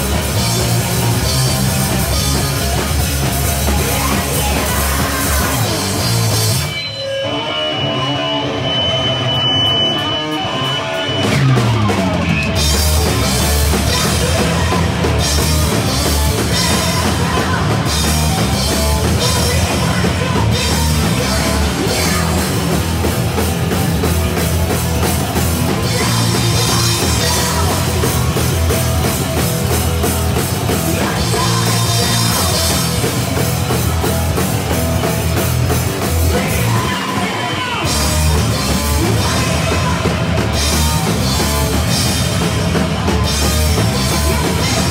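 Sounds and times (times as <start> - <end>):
drum kit with cymbals: 0.0 - 7.0, 8.6 - 44.9
bass guitar: 0.0 - 44.9
electric guitar: 0.0 - 44.9.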